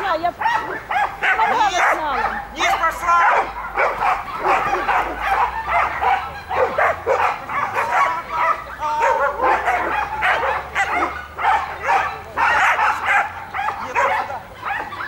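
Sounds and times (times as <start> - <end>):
dog barking: 0.4 - 15.0.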